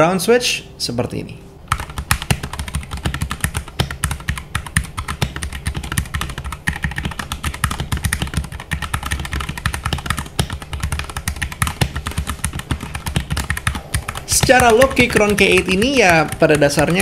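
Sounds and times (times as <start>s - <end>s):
mechanical keyboard typing: 1.7s - 17.0s.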